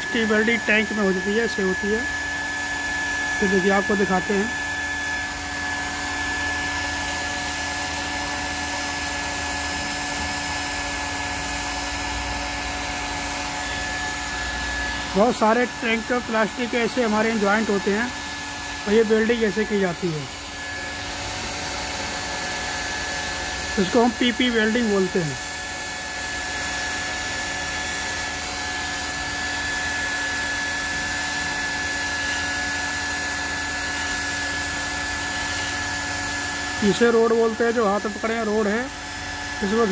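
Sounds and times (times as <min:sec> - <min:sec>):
hot-air welding gun whining: 0:00.0 - 0:39.9.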